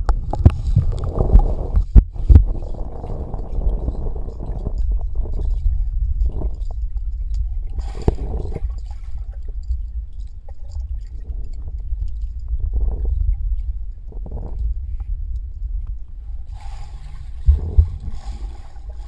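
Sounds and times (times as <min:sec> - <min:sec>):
low underwater rumble: 0:00.0 - 0:19.0
muffled water sloshing: 0:00.0 - 0:19.0.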